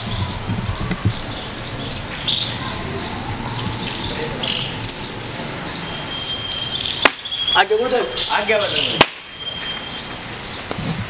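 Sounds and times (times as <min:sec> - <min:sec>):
low steady outdoor hum: 0:00.0 - 0:11.0
small birds chirping: 0:00.0 - 0:11.0.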